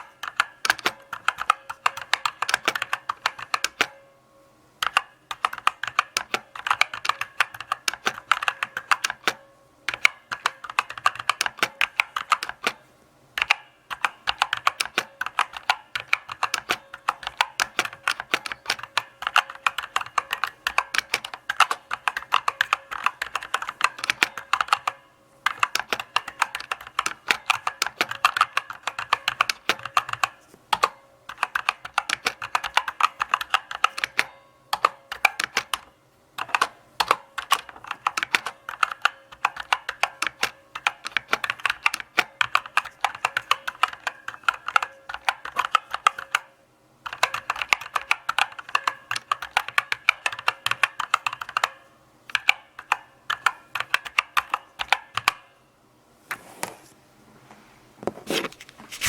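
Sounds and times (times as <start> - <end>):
mechanical keyboard typing: 0.0 - 4.0, 4.8 - 12.8, 13.4 - 55.5.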